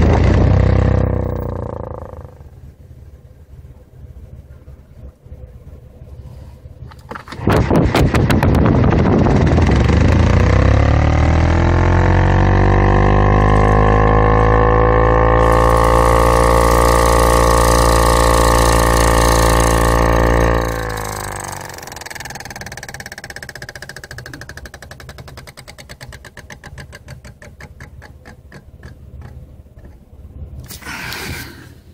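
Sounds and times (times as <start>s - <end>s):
car ventilation fan whining: 0.0s - 31.9s.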